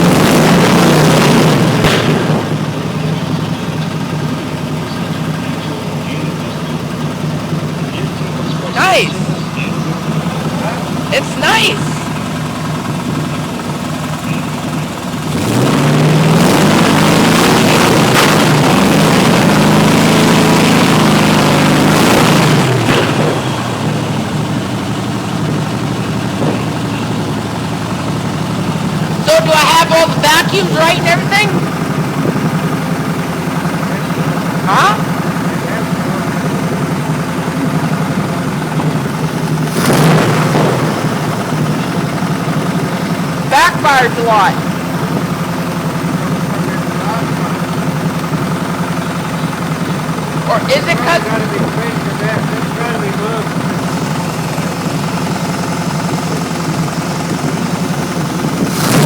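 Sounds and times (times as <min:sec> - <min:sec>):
truck engine idling and revving: 0:00.0 - 0:59.0.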